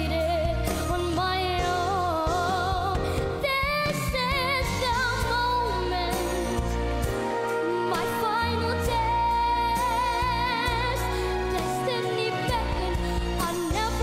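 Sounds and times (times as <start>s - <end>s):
band backing track: 0.0s - 14.0s.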